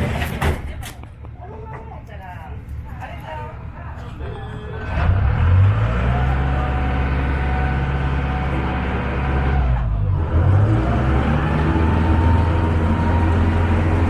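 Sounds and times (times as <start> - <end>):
ferry engine running: 2.5 - 14.0.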